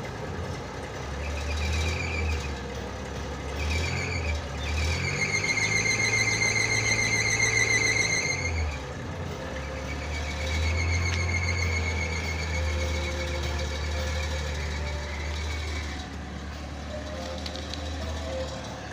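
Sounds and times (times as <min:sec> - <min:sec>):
car engine running: 0:00.0 - 0:18.9
high steady squeal: 0:01.0 - 0:18.9.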